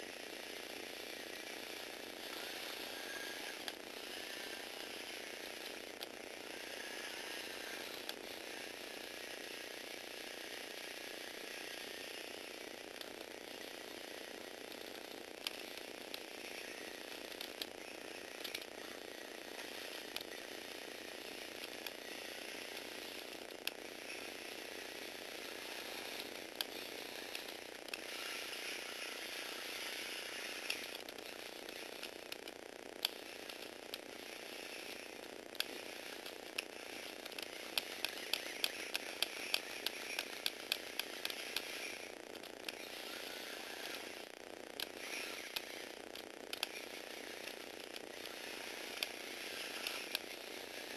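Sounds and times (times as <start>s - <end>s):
electric motor whirring: 0.0s - 50.9s
plastic gears clicking: 0.0s - 50.9s.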